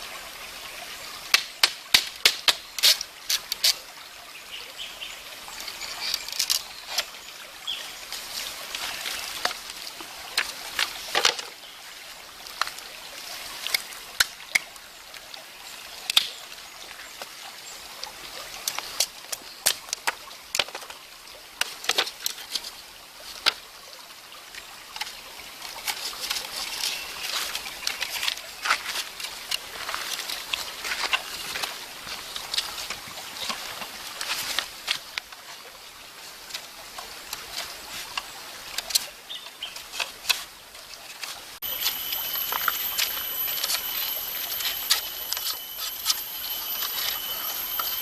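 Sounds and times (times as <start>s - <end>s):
stream trickling: 0.0s - 48.0s.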